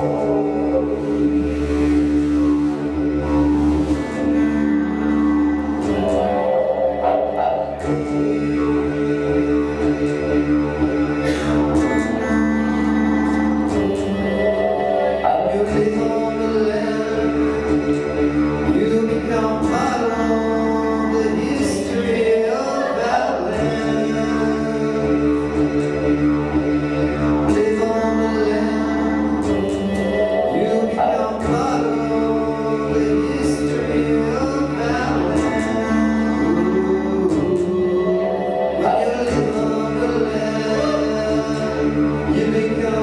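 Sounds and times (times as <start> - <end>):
steady low drone: 0.0 - 43.0.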